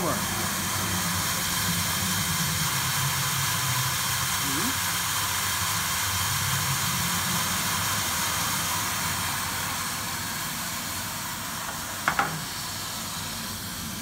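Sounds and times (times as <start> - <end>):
machine humming with motor hiss: 0.0 - 14.0.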